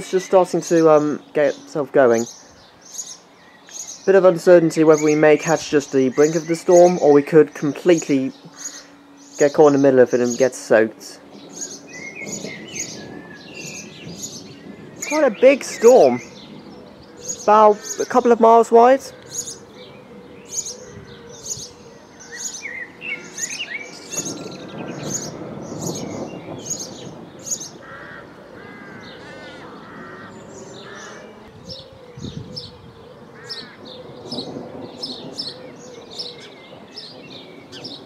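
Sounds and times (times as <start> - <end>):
bird chirping: 0.0 - 38.0
birds warbling: 0.0 - 38.0
distant thunder rumbling: 4.0 - 38.0.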